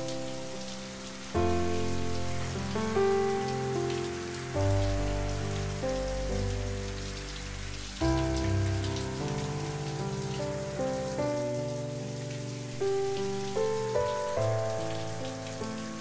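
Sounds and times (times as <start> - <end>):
shower water spraying: 0.0 - 16.0
slow sustained chords music: 0.0 - 16.0.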